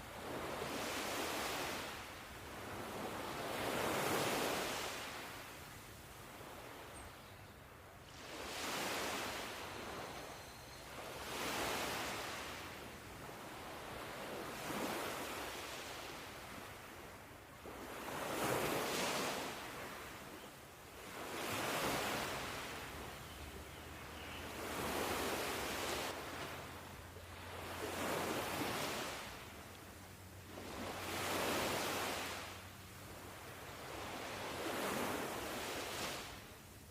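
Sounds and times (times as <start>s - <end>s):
ocean waves breaking on shore: 0.0s - 36.9s.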